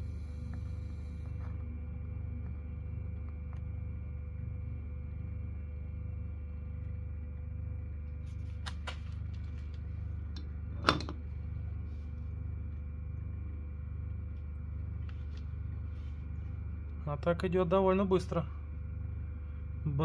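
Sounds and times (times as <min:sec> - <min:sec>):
compressor humming: 0:00.0 - 0:20.0.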